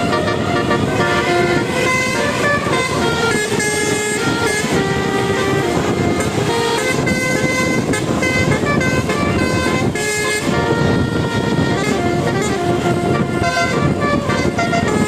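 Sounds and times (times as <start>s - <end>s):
bus horn playing a melody: 0.0s - 15.0s.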